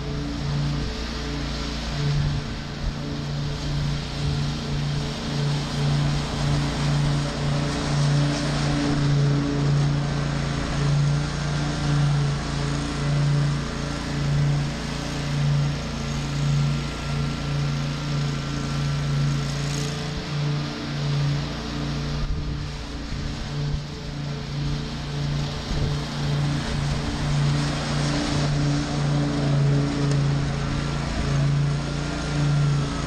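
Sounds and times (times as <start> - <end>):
riding mower engine running: 0.0 - 33.0.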